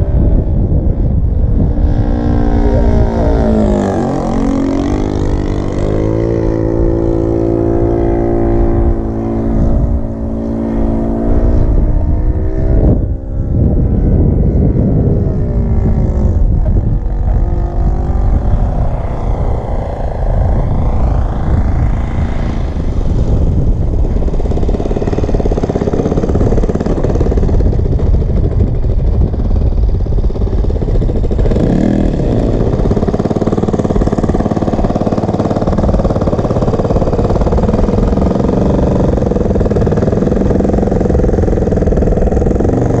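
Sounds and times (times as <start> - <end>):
model airplane engine running: 0.0 - 43.0.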